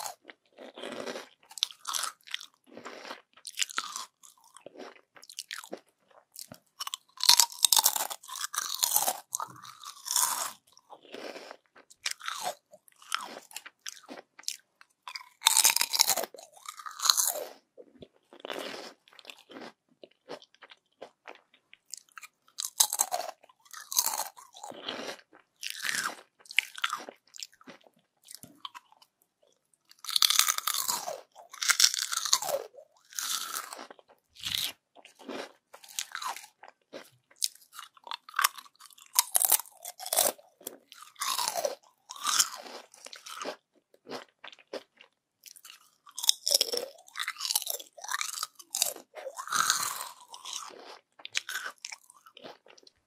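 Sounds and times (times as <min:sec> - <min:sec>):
crunchy chips being chewed: 0:00.0 - 0:53.0.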